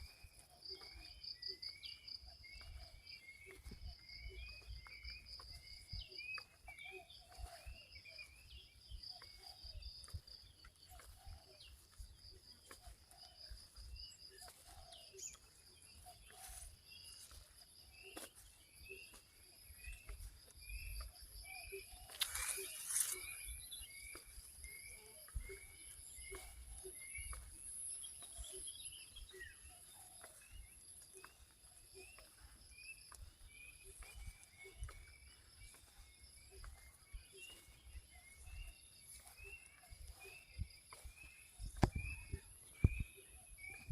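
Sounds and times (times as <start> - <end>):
scattered bird calls: 0.0 - 43.9.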